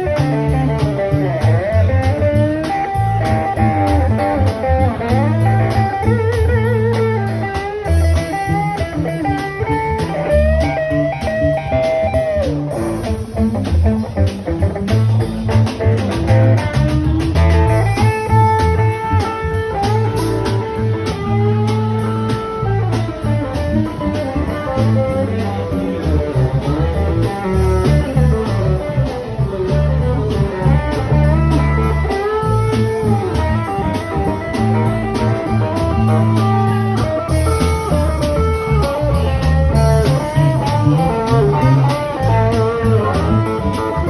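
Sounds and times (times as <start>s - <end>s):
blues band playing: 0.0s - 44.0s
lead guitar bending notes: 0.0s - 44.0s.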